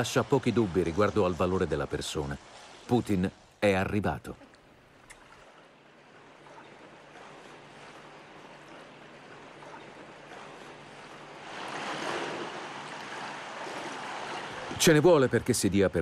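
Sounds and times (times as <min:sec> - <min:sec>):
pool water lapping and sloshing: 0:00.0 - 0:16.0.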